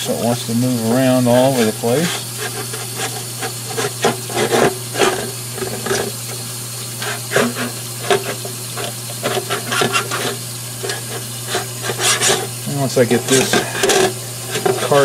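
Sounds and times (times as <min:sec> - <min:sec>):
brush scrubbing in metal sink: 0:00.0 - 0:15.0.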